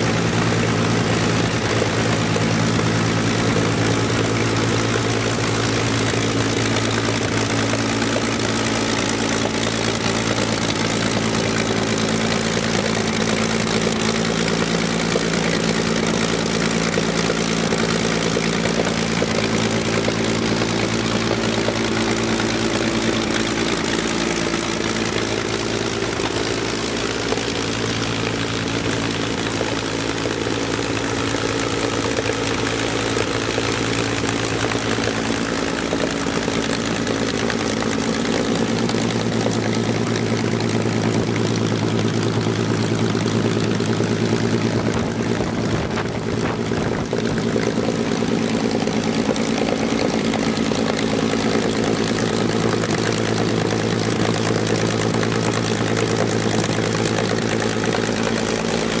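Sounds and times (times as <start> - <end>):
aircraft piston engine running: 0.0 - 59.0.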